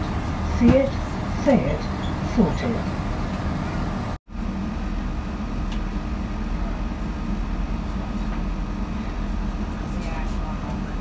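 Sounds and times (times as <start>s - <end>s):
train interior low rumble: 0.0s - 11.0s.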